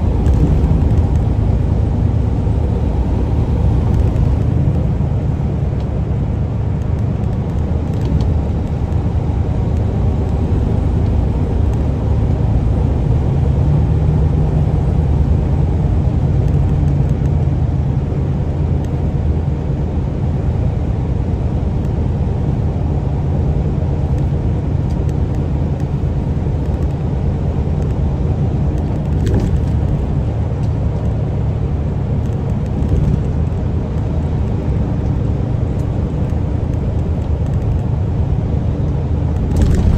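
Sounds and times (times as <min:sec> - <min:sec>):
diesel engine humming: 0:00.0 - 0:39.9
tyre and road noise: 0:00.0 - 0:39.9.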